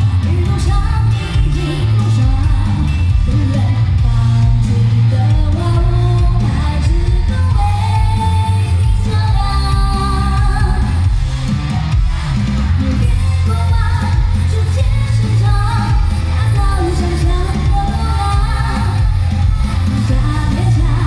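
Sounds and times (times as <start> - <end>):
woman singing into a microphone: 0.0 - 11.3, 12.0 - 21.0
backing music with heavy bass: 0.0 - 21.0.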